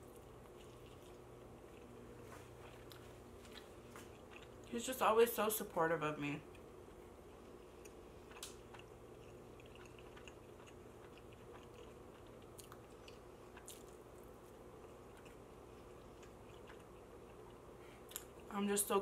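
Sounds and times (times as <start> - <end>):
chewing food: 0.0 - 5.1, 6.4 - 18.5
low steady hum: 0.0 - 19.0.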